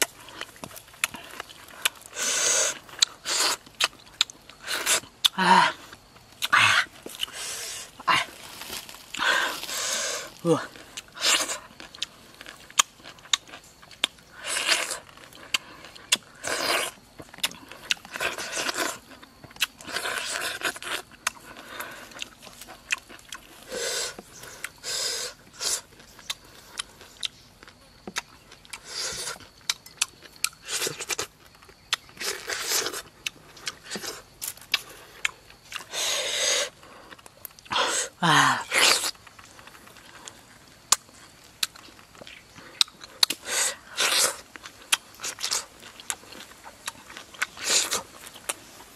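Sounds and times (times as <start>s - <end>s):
wet mouth noises eating fruit: 0.0s - 48.9s.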